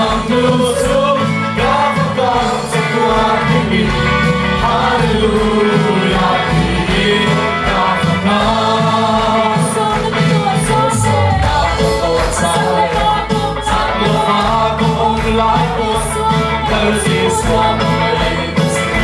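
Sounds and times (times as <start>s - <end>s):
amplified band: 0.0s - 19.0s
bass and drums beat: 0.0s - 19.0s
voices singing together: 0.0s - 19.0s.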